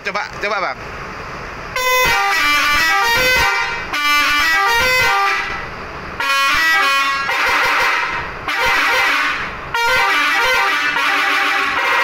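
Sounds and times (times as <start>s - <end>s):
bus horn playing a tune: 1.8s - 12.0s.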